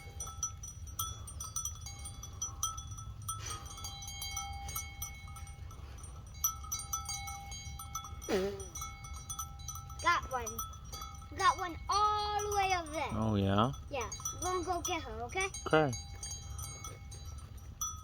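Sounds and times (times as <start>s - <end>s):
low steady rumble: 0.0s - 18.0s
small metal bells ringing: 0.0s - 18.0s.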